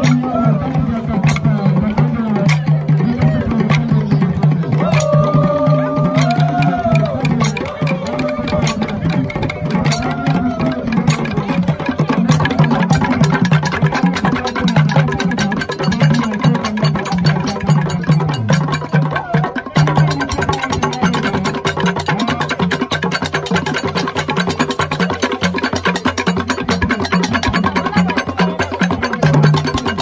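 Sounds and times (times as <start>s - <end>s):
hand drums in fast rhythm: 0.0s - 30.0s.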